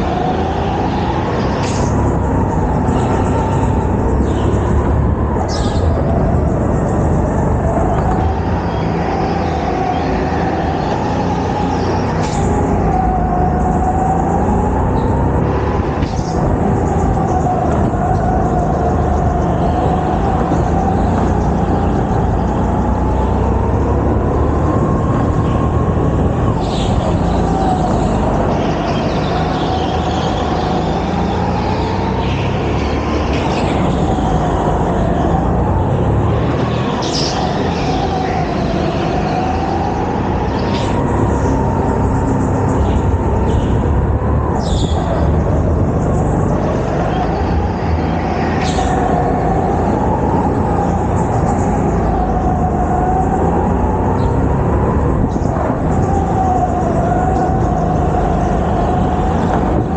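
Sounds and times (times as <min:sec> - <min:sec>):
go-kart motor whine: 0:00.0 - 0:59.9.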